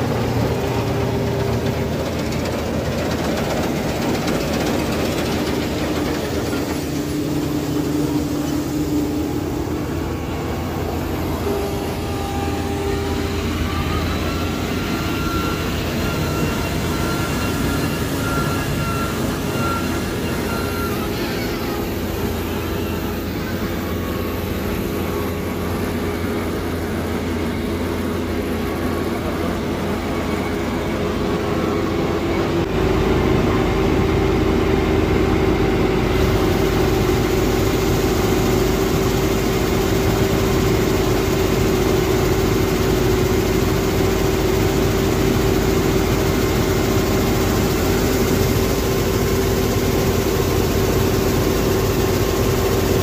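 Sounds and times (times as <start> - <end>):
combine harvester running: 0.0 - 53.0
steady hum: 0.0 - 53.0.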